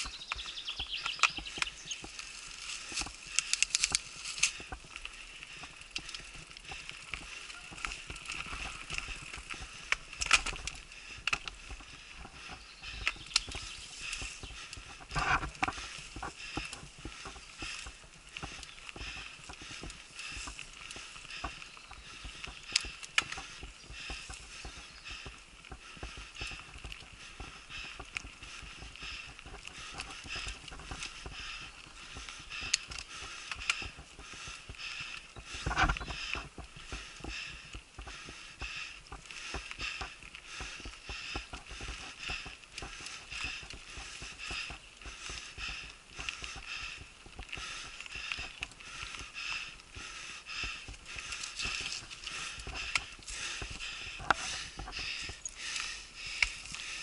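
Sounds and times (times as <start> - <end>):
bike rattling over bumpy ground: 0.0 - 57.0.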